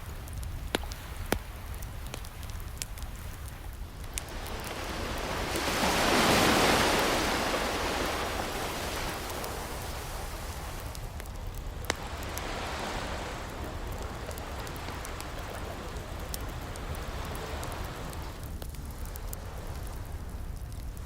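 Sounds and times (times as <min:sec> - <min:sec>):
crackling wood fire: 0:00.0 - 0:21.0
gentle ocean waves: 0:00.0 - 0:21.0.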